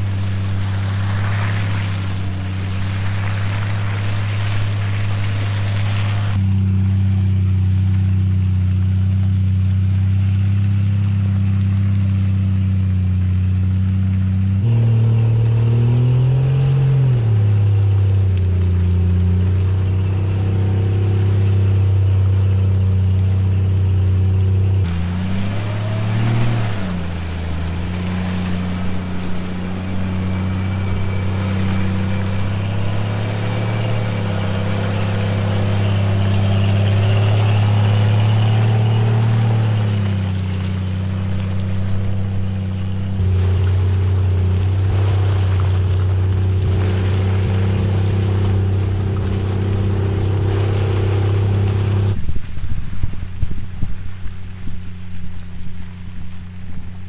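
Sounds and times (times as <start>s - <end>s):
car engine running under load: 0.0s - 57.0s.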